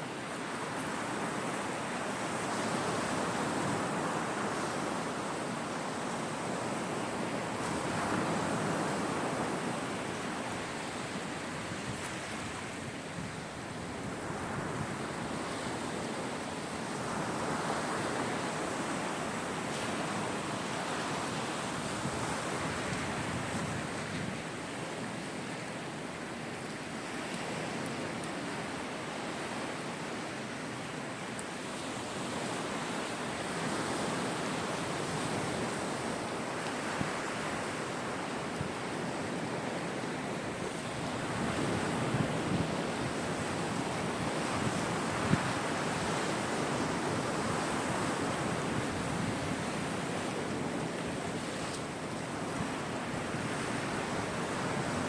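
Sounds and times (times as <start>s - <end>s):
sea waves breaking on shore: 0.0s - 55.0s
wind noise on microphone: 0.4s - 25.6s, 31.6s - 55.0s.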